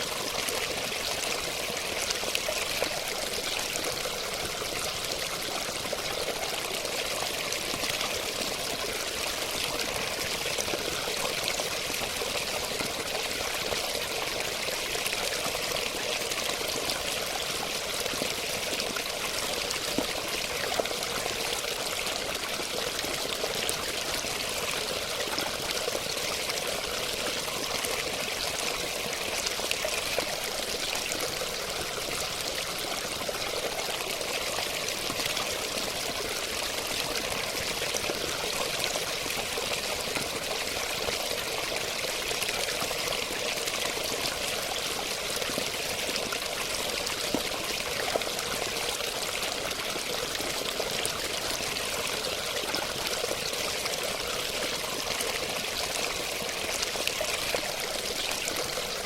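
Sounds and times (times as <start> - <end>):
running water flowing: 0.0 - 59.0.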